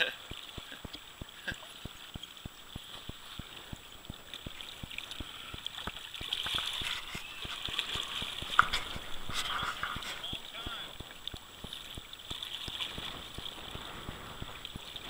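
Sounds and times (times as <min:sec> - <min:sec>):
small low ticks: 0:00.0 - 0:09.1, 0:09.8 - 0:15.0
river water rushing and gurgling: 0:00.0 - 0:15.0.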